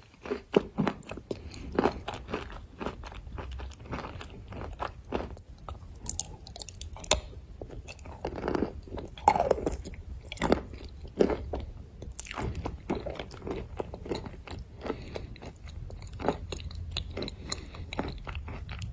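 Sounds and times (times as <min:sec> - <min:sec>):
wet chewing: 0:00.0 - 0:18.9.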